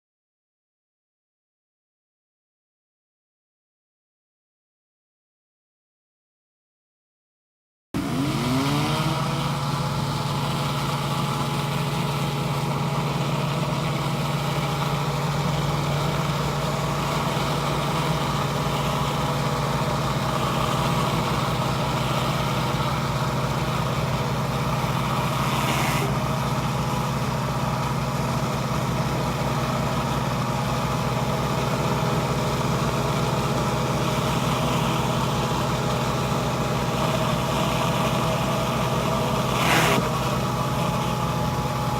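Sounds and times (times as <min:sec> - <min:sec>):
pressure washer engine running: 0:08.0 - 0:41.9.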